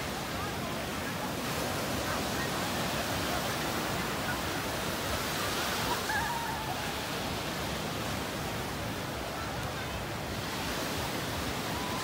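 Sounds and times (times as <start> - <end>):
small waves breaking on sand: 0.0 - 12.0.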